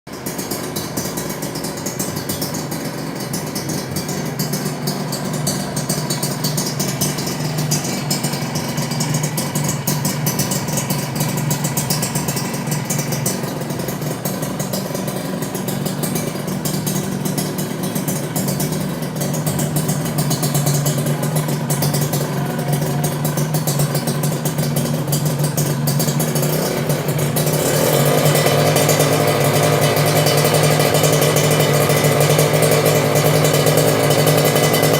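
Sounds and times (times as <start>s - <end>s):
two-stroke motorcycle engine running: 0.1s - 34.9s.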